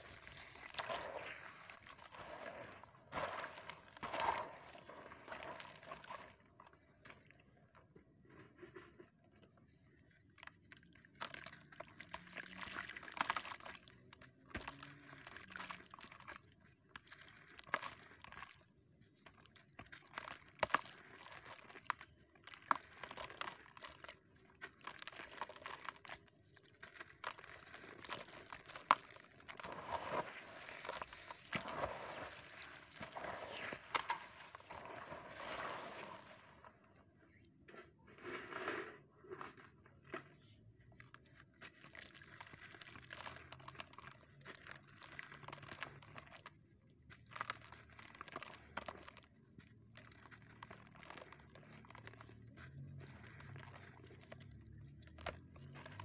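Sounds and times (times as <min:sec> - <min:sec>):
hands crumbling lumps in water: 0:00.0 - 0:08.0, 0:09.7 - 0:37.6, 0:39.4 - 0:56.0.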